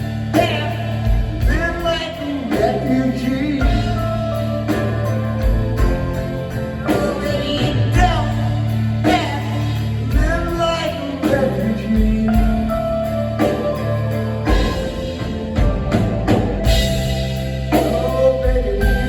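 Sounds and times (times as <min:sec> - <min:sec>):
drums on a steady beat: 0:00.0 - 0:19.0
sustained bass notes: 0:00.0 - 0:19.0.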